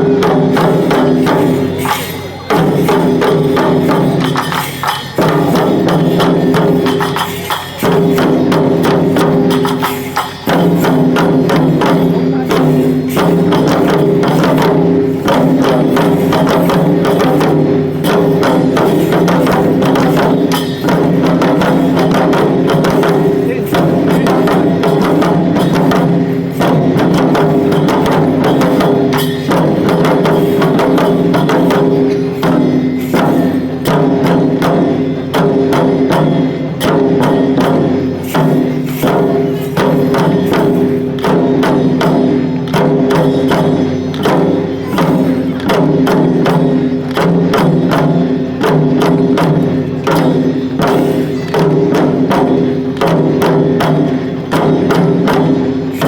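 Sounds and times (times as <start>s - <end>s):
drum beating fast rhythm: 0.0s - 56.0s
steady ringing tones: 0.0s - 56.0s.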